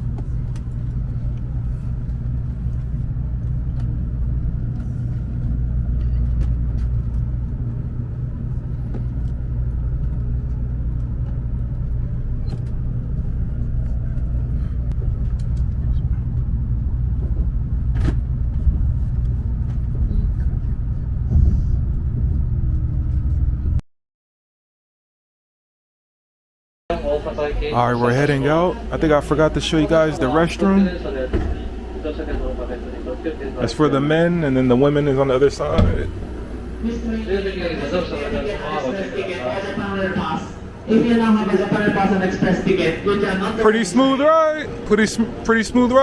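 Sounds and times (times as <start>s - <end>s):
train carriage low rumble: 0.0s - 23.8s, 26.9s - 46.0s.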